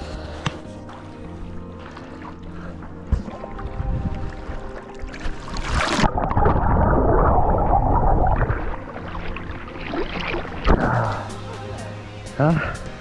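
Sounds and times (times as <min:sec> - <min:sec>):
water splashing and sloshing: 0:00.0 - 0:11.5.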